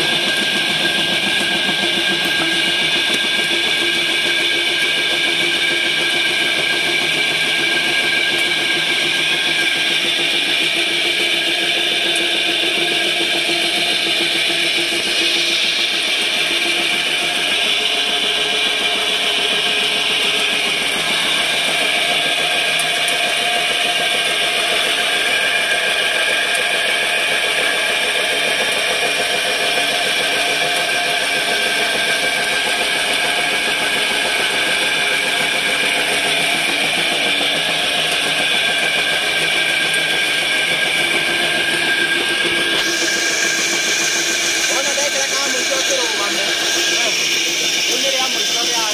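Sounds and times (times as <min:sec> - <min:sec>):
machine motor drone: 0:00.0 - 0:48.9.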